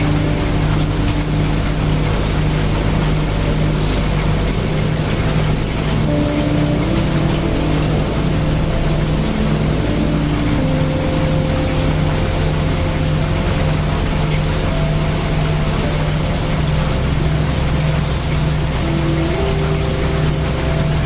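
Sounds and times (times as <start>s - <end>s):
deep rumble: 0.0s - 21.0s
faint low hums: 0.0s - 21.0s
heavy rain: 0.0s - 21.0s.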